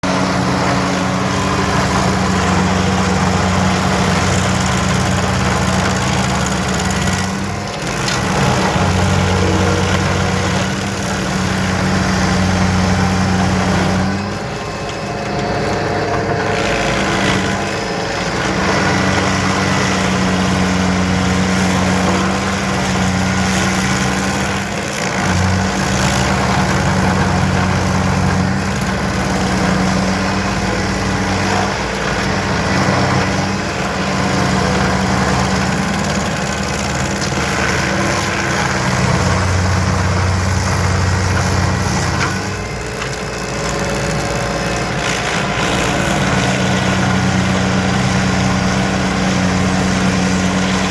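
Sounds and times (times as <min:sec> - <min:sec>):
power equipment engine running: 0:00.0 - 0:50.9.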